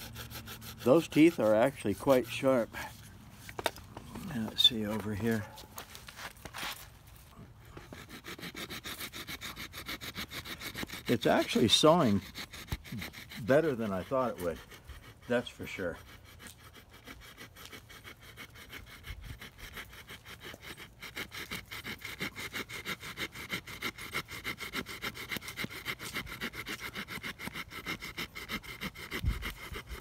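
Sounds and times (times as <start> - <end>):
hand saw cutting tree limb: 0.0 - 30.0.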